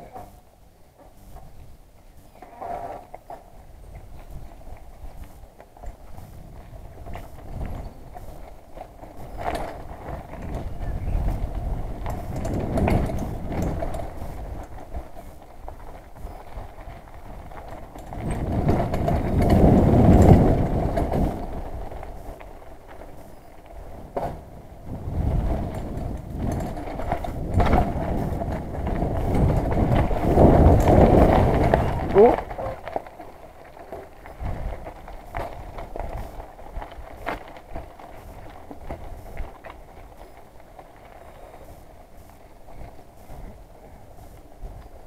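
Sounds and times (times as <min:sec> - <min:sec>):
bike rattles: 0:00.0 - 0:45.0
bike tyres rumbling on dirt: 0:00.0 - 0:45.0
wind on microphone: 0:03.6 - 0:33.0, 0:34.2 - 0:45.0.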